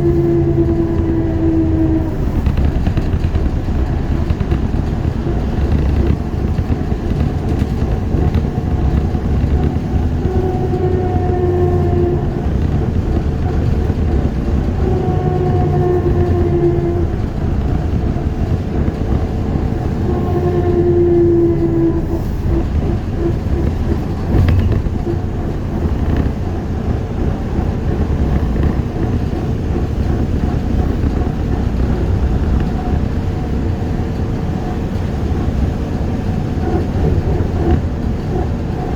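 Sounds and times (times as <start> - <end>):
trolleybus rolling rumble: 0.0 - 38.9.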